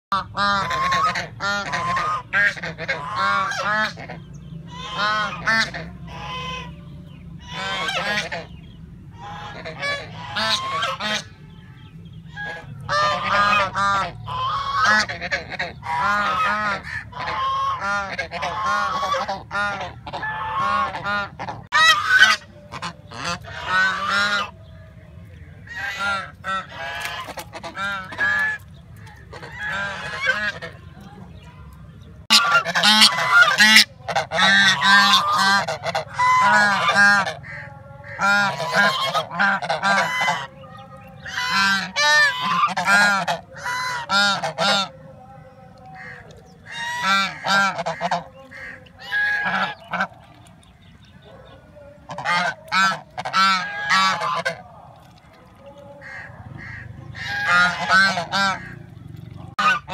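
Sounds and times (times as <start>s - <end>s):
geese honking: 0.1s - 59.9s.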